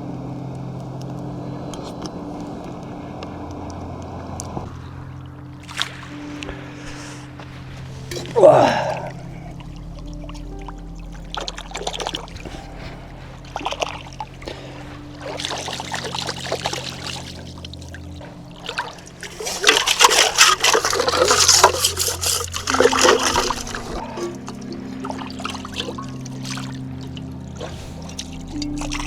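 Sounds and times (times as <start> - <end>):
low ambient music: 0.0 - 29.0
water pouring and trickling: 4.4 - 29.0.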